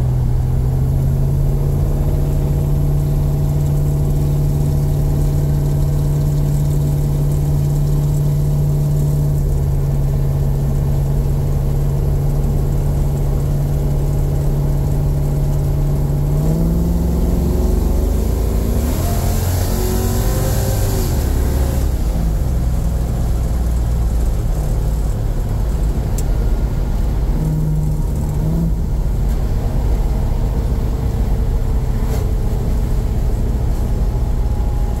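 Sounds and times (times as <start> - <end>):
car engine from inside cabin: 0.0 - 35.0
road noise: 0.0 - 35.0.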